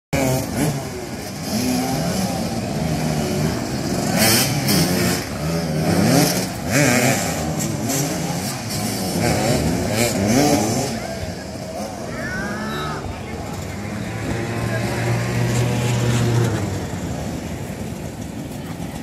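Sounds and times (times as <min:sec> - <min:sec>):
motorcycle engines revving: 0:00.2 - 0:19.0.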